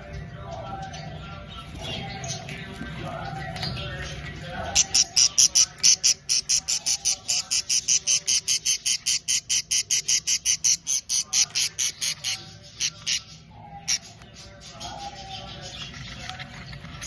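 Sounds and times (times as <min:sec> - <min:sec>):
budgerigar chicks chirping: 0:00.0 - 0:17.0.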